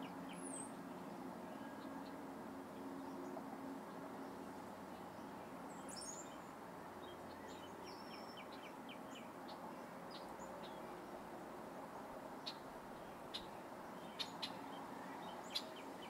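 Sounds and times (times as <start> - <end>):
small songbirds chirping: 0.0 - 2.2, 3.0 - 11.2, 12.4 - 16.0.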